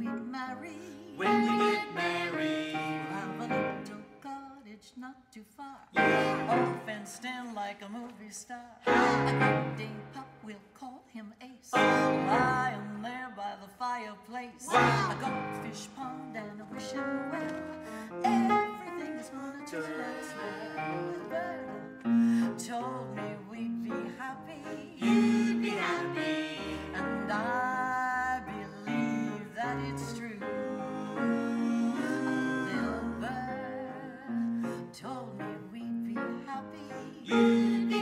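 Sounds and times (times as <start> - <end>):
person singing: 0.0 - 4.5, 6.0 - 7.3, 8.8 - 10.5, 11.7 - 13.3, 14.6 - 38.0.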